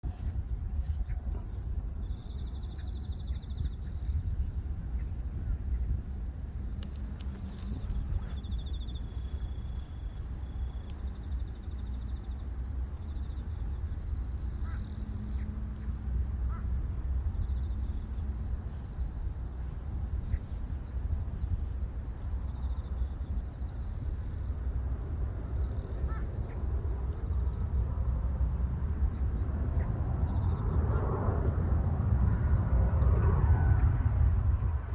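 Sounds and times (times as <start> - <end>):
insect chirps: 0.0 - 34.9
wind rumble on microphone: 0.0 - 34.9
insects trilling: 0.1 - 34.9.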